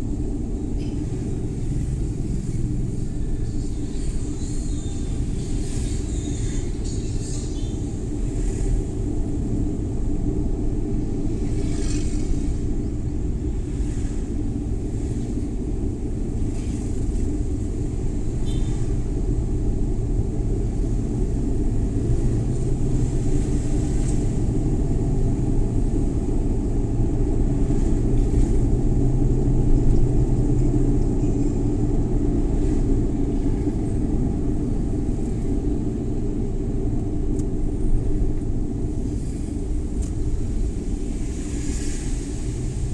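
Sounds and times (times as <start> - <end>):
road rumble: 0.0 - 42.9
van engine drone: 0.0 - 42.9.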